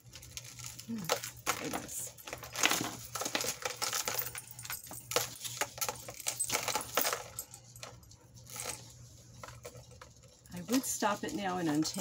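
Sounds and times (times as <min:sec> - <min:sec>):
metal jewelry clinking: 0:00.1 - 0:12.0.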